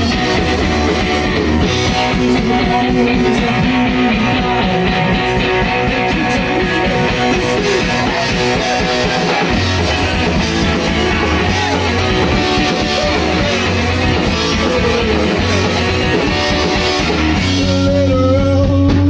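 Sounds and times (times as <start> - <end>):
deep bass tone: 0.0 - 19.0
drums: 0.0 - 19.0
electric guitar: 0.0 - 19.0.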